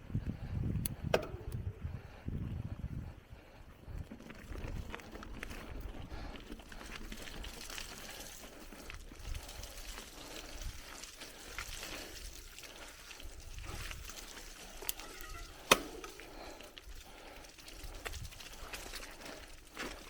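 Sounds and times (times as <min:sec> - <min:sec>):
bicycle tyres on gravel: 0:02.1 - 0:20.0
small rattles and ticks: 0:03.8 - 0:20.0.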